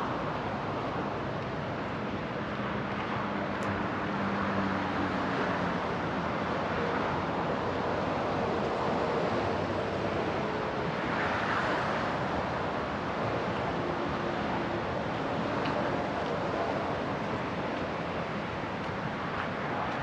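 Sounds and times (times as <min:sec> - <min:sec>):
distant traffic: 0:00.0 - 0:20.0
wind: 0:00.0 - 0:20.0.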